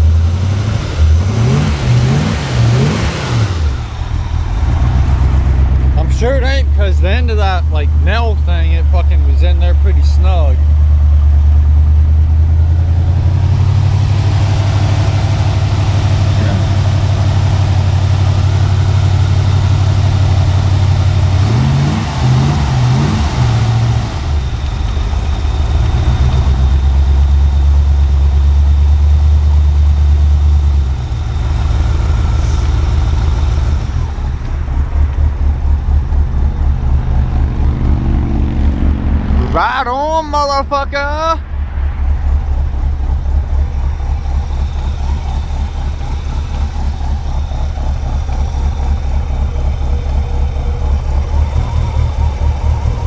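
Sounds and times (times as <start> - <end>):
car engine idling with throttle blips: 0.0 - 53.0.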